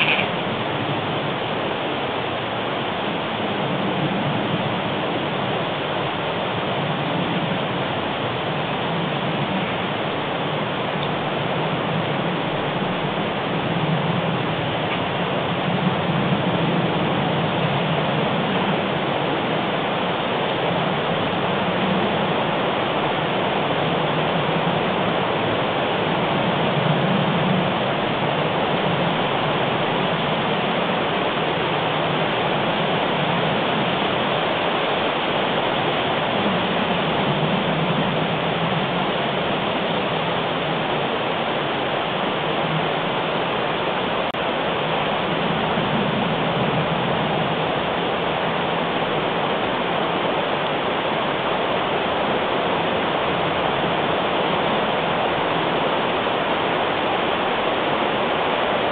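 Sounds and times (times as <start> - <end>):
steady rushing noise: 0.0 - 58.9.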